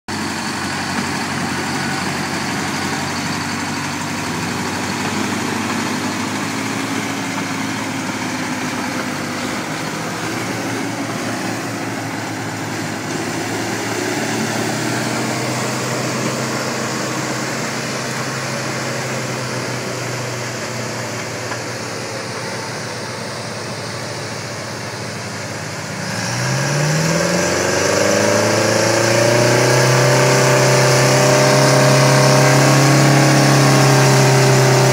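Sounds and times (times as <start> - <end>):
engine revving up: 0.1 - 34.9
heavy machinery diesel engines: 0.1 - 34.9.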